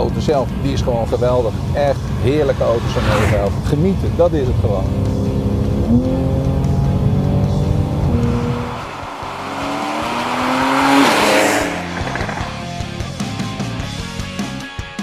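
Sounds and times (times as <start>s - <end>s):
road and wind noise: 0.0s - 14.2s
car engine accelerating hard: 0.2s - 14.1s.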